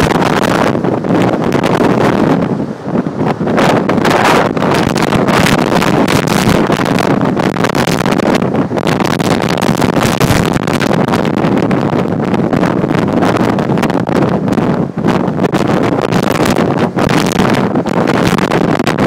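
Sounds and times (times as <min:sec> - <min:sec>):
strong wind blasting microphone: 0:00.0 - 0:19.0.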